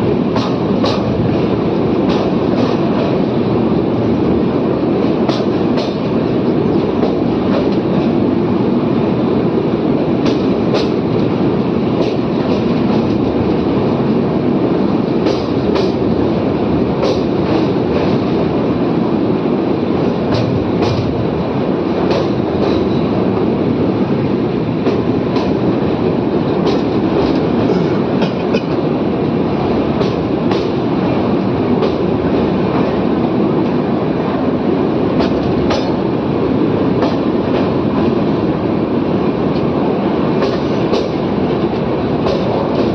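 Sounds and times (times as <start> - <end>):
train rumbling on track: 0.0 - 42.9.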